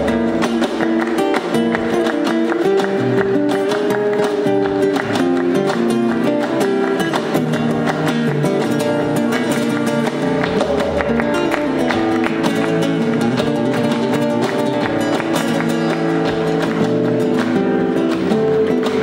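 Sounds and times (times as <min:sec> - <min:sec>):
flamenco guitar playing: 0:00.0 - 0:19.0.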